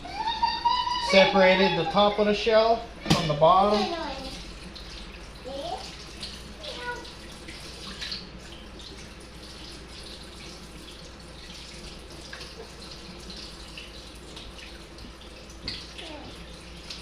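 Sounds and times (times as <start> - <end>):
tap water running and splashing: 0.9 - 17.0.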